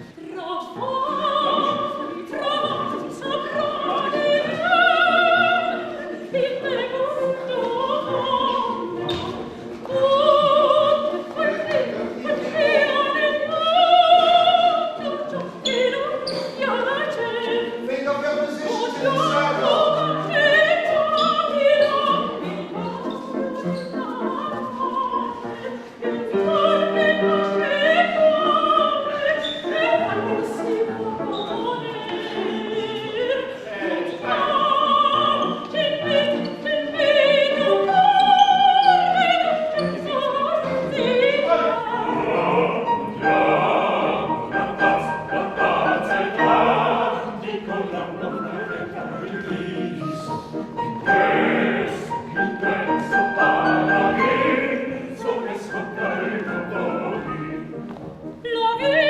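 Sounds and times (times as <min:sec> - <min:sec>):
classical accompaniment: 0:00.0 - 0:59.0
opera singer with vibrato: 0:00.0 - 0:59.0.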